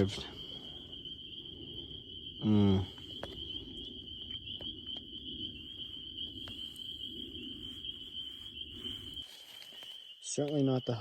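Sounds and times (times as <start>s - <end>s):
low rumbling haze: 0.0s - 9.5s
crickets chirping: 0.0s - 11.0s.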